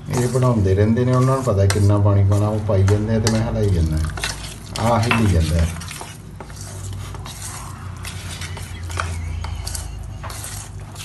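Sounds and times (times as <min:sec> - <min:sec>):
spoon scraping metal bowl: 0:00.0 - 0:11.0.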